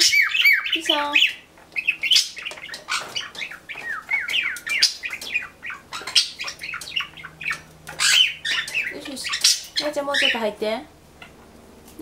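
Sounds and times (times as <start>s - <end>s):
cockatiels chirping and whistling: 0.0s - 10.4s.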